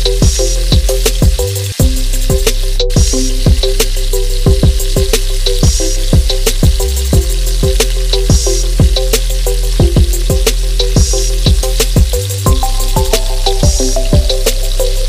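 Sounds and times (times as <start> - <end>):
food sizzling in a pan: 0.0 - 15.0
instrumental music with drum beat: 0.0 - 15.0.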